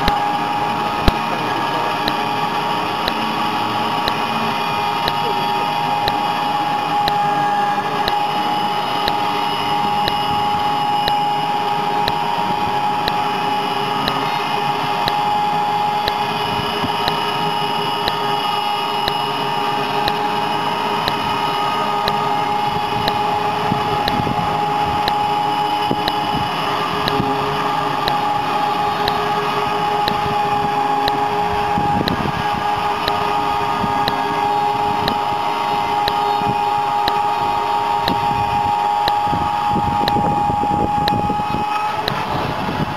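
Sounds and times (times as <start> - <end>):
faint regular ticking: 0.0 - 7.3, 8.0 - 41.3
band sawmill whining: 0.0 - 42.9.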